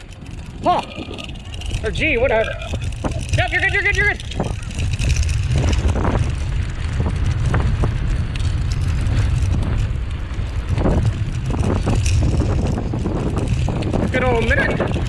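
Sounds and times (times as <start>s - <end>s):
rig rolling along trail: 0.0s - 15.0s
wind buffeting microphone: 0.0s - 15.0s.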